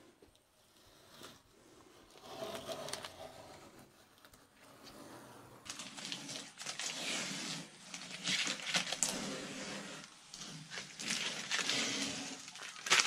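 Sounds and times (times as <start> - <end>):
masking tape peeled and crumpled: 0.3 - 13.0.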